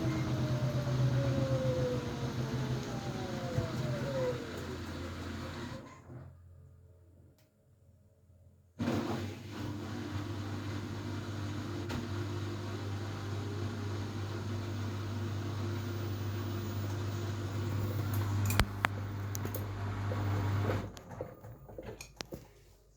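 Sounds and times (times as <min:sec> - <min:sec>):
washing machine motor hum: 0:00.0 - 0:06.3, 0:08.8 - 0:22.8.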